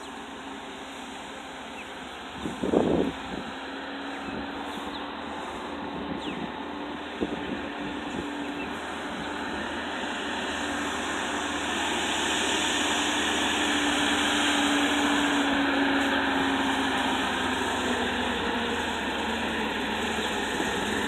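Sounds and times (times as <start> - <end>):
diesel truck engine whining: 0.0 - 21.0.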